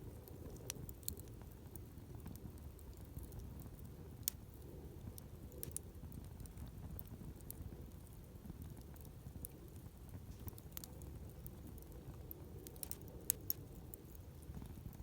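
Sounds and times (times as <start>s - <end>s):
campfire crackling: 0.0s - 15.0s
fire popping: 0.0s - 15.0s
low rumble of flames: 0.0s - 15.0s.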